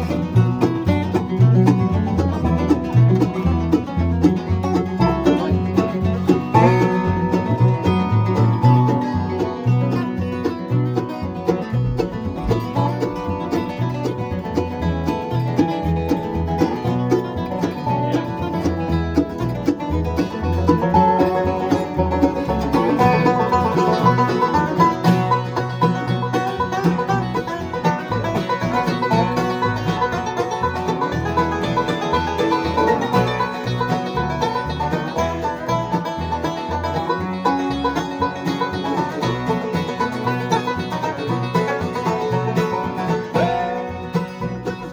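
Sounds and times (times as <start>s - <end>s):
bluegrass banjo and guitar music: 0.0s - 44.9s.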